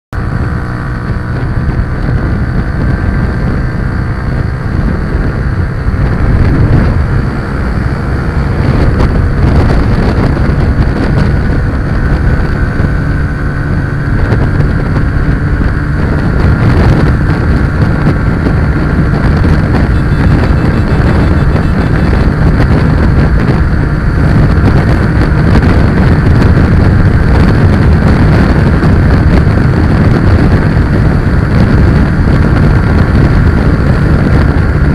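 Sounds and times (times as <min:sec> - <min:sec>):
vehicle engine running: 0:00.1 - 0:34.9
wind buffeting microphone: 0:00.1 - 0:34.9.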